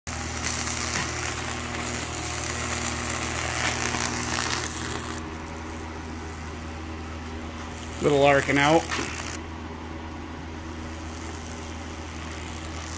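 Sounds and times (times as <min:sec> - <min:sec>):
electrical arc crackling and hissing: 0:00.1 - 0:12.9
low electrical hum: 0:00.1 - 0:12.9.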